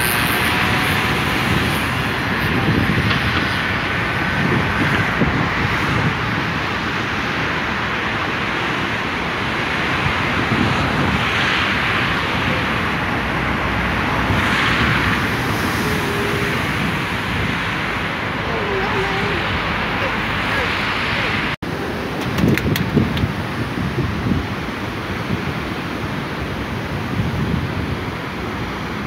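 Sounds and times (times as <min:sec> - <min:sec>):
churning surf: 0:00.0 - 0:29.0
waves crashing: 0:00.0 - 0:29.0.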